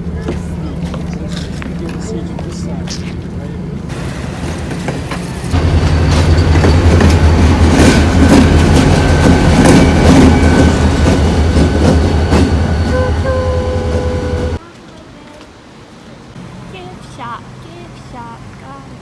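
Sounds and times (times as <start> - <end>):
passenger train rumble: 0.0 - 19.0
wheels clacking over rail joints: 0.2 - 15.6.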